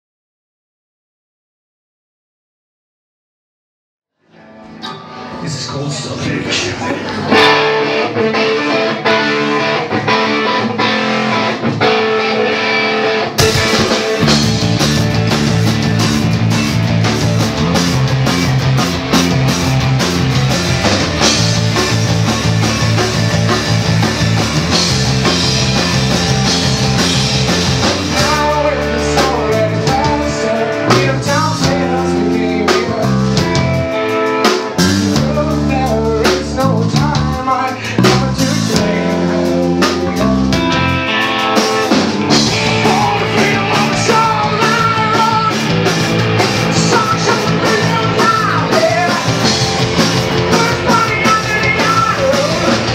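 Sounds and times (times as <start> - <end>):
bass guitar: 4.2 - 52.9
electric guitar: 4.2 - 52.9
drum kit: 6.0 - 52.9.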